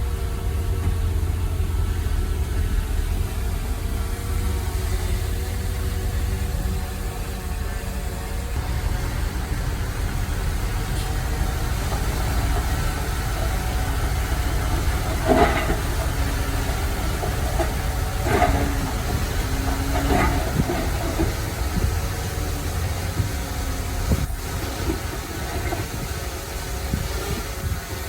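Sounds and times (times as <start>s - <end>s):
diesel machinery rumbling: 0.0s - 28.0s.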